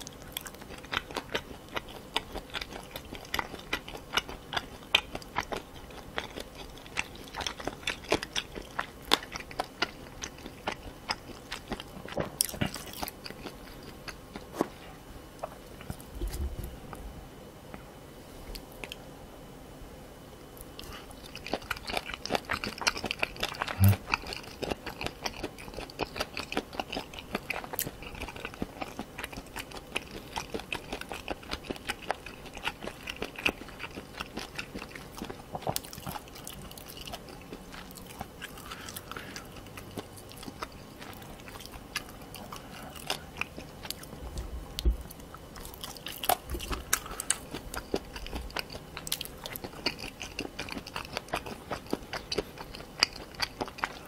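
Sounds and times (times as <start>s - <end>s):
wet chewing: 0.0s - 14.8s, 20.6s - 54.0s.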